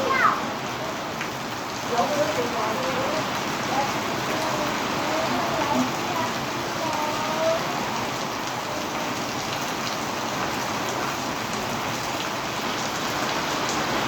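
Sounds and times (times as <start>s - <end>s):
heavy rain pouring: 0.0s - 14.0s
rain drop hits: 0.0s - 14.0s.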